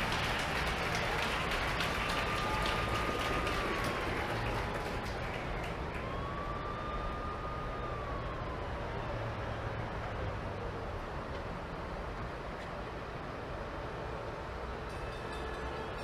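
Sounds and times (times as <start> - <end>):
distant siren: 0.0 - 12.3, 12.9 - 16.0
low traffic rumble: 0.0 - 16.0.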